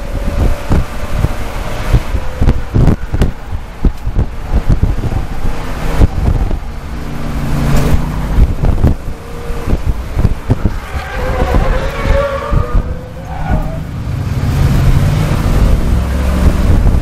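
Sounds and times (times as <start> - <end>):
race car engine running: 0.0 - 17.0.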